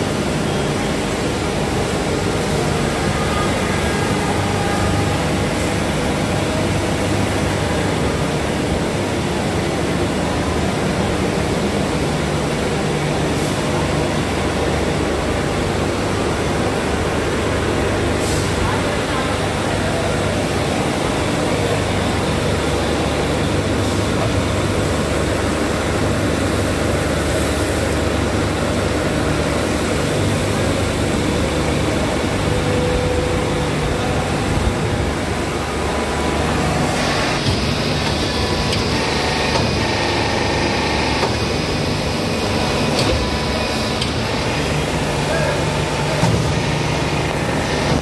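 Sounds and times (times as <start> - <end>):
factory machinery running: 0.0 - 48.0.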